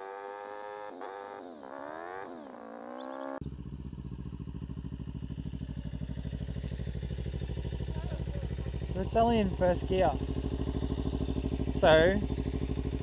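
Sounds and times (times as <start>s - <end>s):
motorcycle engine revving: 0.0s - 13.0s
motorcycle idling: 0.0s - 13.0s.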